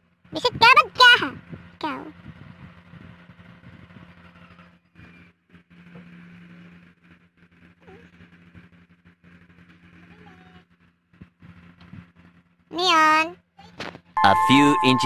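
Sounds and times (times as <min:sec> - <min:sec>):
faint motor hum: 0:00.0 - 0:15.0.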